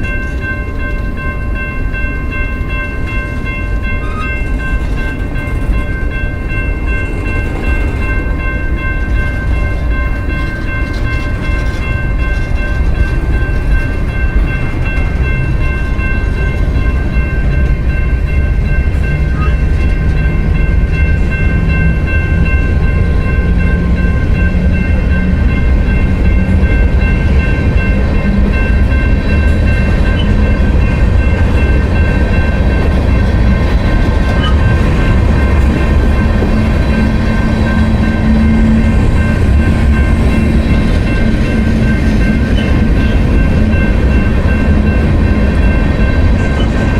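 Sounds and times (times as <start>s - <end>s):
high ringing tones: 0.0s - 46.9s
train rumbling: 0.0s - 46.9s.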